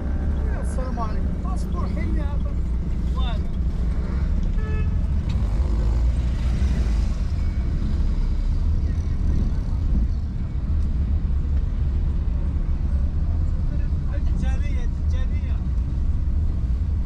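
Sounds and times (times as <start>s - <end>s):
car engine: 0.0s - 17.0s
road noise: 0.0s - 17.0s.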